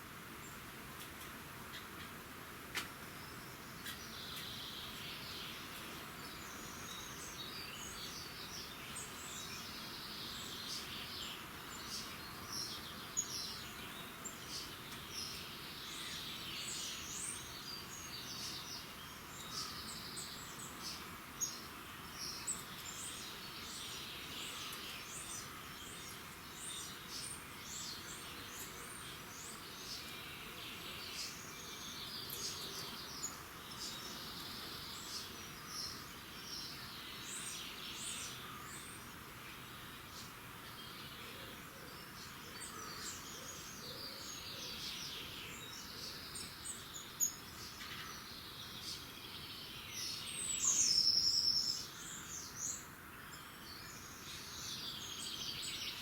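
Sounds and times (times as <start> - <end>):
steady low hiss: 0.0 - 56.0
songbirds singing and chirping: 0.1 - 56.0.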